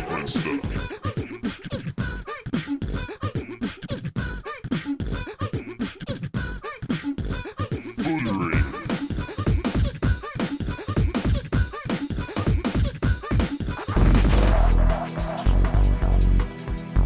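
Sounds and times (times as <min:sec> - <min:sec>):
beatboxing: 0:00.4 - 0:16.2.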